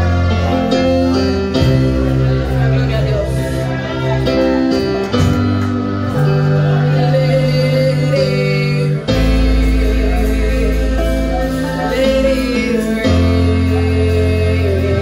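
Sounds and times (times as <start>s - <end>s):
deep bass: 0.0s - 15.0s
electric guitar: 0.0s - 15.0s
keyboard: 0.0s - 15.0s.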